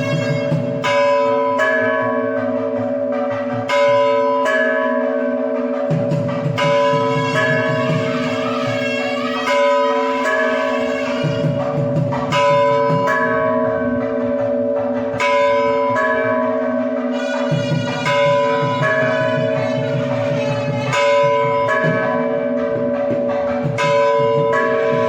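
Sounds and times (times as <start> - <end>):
large temple bells ringing: 0.0 - 25.0.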